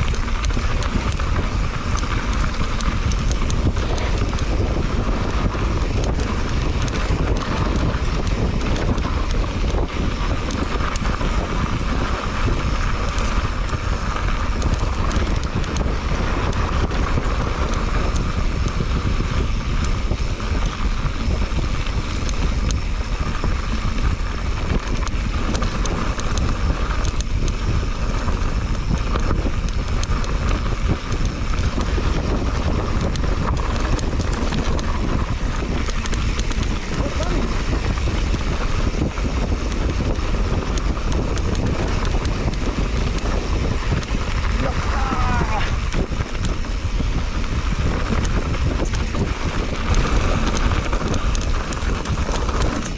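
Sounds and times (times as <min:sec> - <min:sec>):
bike rattling on rough ground: 0:00.0 - 0:52.9
tyres rumbling on dirt trail: 0:00.0 - 0:52.9
wind buffeting microphone: 0:00.0 - 0:52.9.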